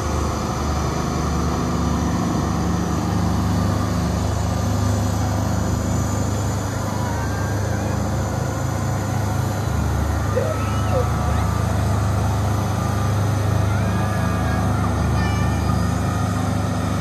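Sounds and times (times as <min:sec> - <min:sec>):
truck diesel engine humming: 0:00.0 - 0:17.0.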